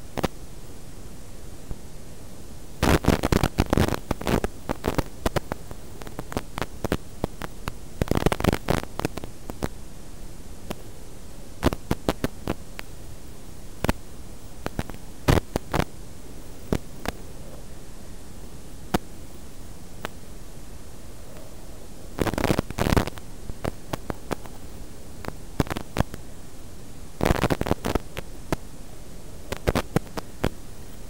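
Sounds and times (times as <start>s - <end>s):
crackling bursts: 0.0s - 31.0s
static hiss: 0.0s - 31.0s.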